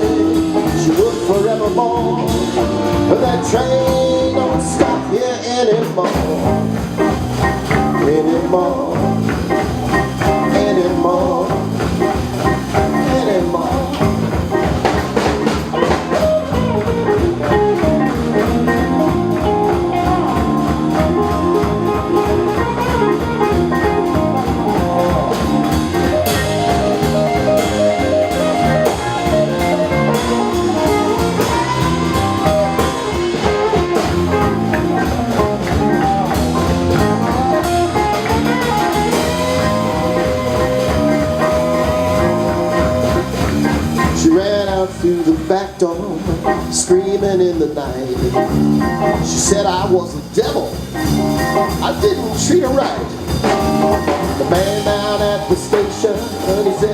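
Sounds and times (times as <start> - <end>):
blues band playing: 0.0 - 56.9
lead guitar bending notes: 6.3 - 44.7, 48.0 - 56.9.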